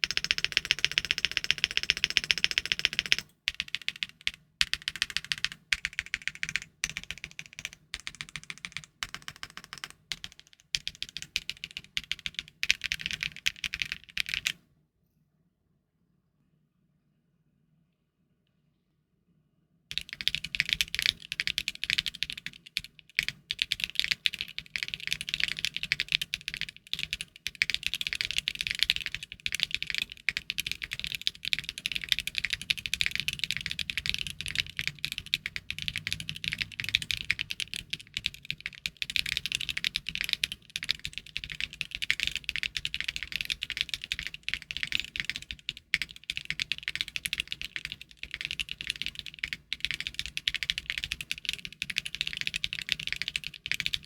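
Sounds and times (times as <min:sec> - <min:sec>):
fast typing on mechanical keyboard: 0:00.0 - 0:14.6, 0:19.9 - 0:54.0.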